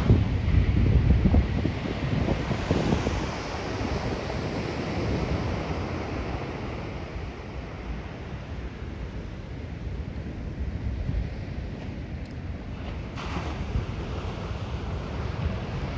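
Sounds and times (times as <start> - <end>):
ocean surf: 0.0 - 15.9
wind buffeting microphone: 0.0 - 15.9.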